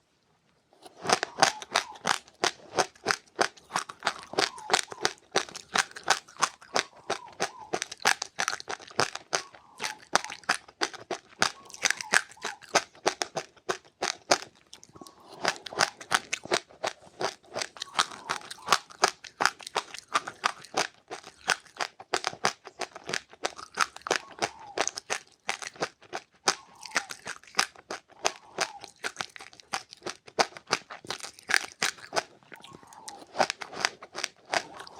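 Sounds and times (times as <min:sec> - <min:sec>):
person chewing crunchy seeds: 0:00.8 - 0:34.9.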